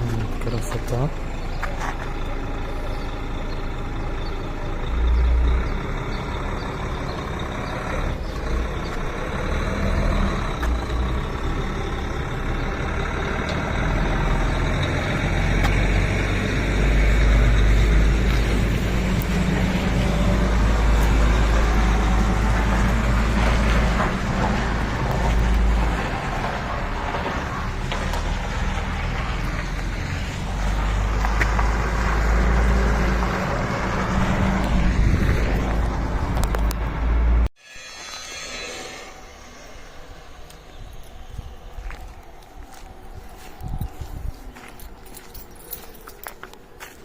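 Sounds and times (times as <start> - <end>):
heavy truck engine rumbling: 0.0 - 47.0.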